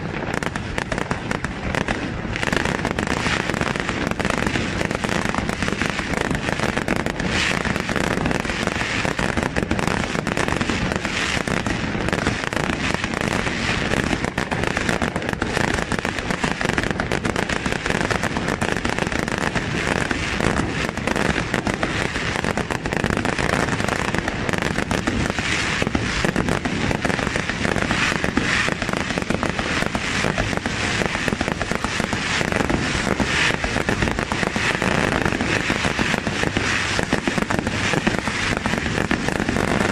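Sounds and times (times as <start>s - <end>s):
fireworks cracking and popping: 0.0s - 39.9s.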